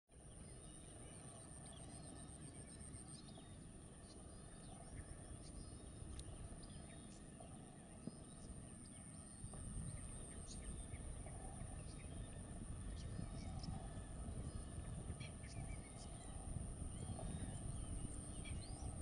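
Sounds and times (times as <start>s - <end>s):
low steady rumble: 0.1s - 19.0s
high-pitched whine: 0.2s - 19.0s.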